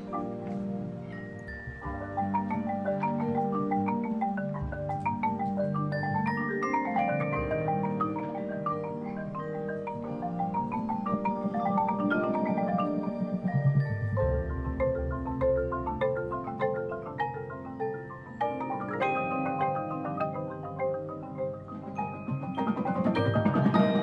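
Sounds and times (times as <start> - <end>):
marimbas playing quick runs: 0.0 - 24.0.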